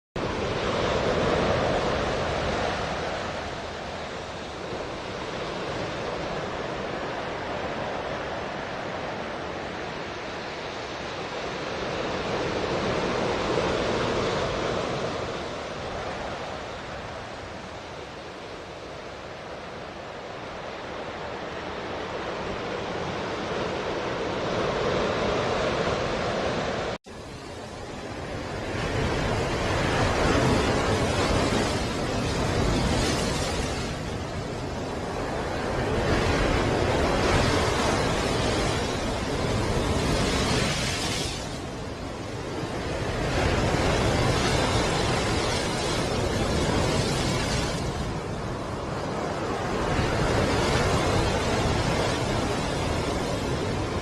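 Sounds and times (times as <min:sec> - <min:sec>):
ocean waves washing in: 0:00.2 - 0:54.0.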